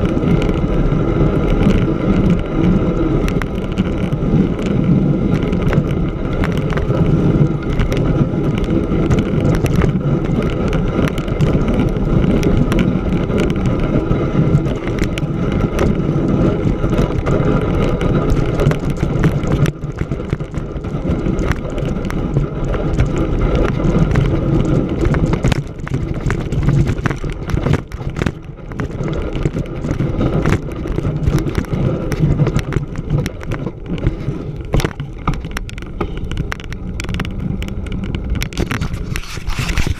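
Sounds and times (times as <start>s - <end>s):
bicycle tires rolling on snow: 0.0s - 39.9s
bike clicks and rattles: 0.0s - 39.9s.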